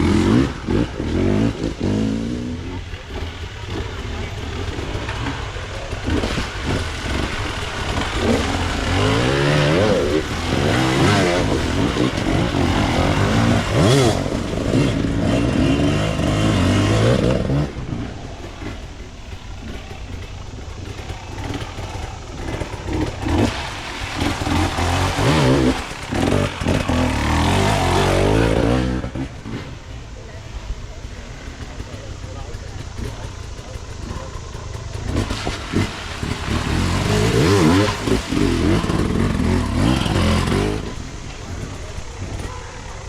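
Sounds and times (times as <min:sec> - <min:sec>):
dirt bike engines revving: 0:00.0 - 0:43.0.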